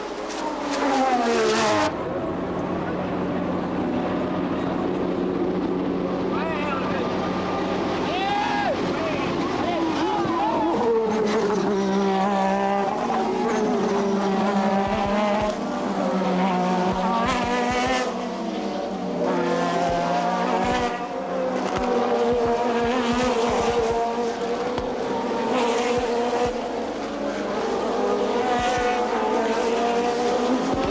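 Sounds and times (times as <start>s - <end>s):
race car engines at high revs: 0.0s - 30.9s.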